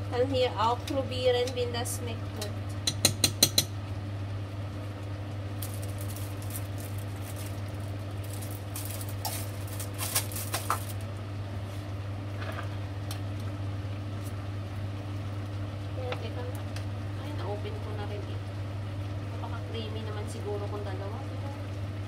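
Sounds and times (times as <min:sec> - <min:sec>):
pot simmering with crackles and pops: 0:00.0 - 0:22.0
steady low hum: 0:00.0 - 0:22.0.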